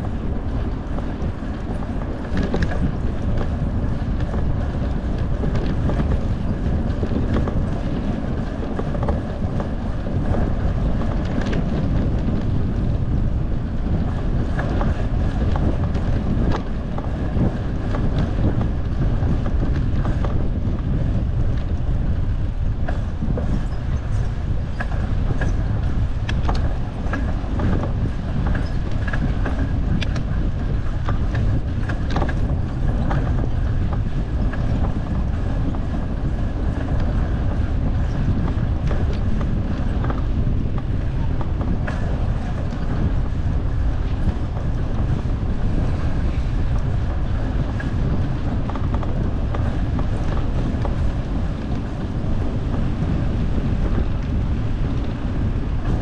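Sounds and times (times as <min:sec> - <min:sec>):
bicycle clicks and rattles: 0:00.0 - 0:56.0
wind rushing over microphone: 0:00.0 - 0:56.0.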